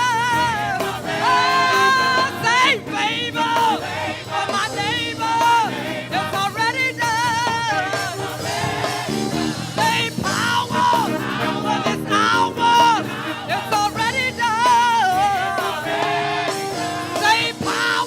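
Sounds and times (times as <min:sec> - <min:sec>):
choir singing: 0:00.0 - 0:18.0
gospel band playing: 0:00.0 - 0:18.0.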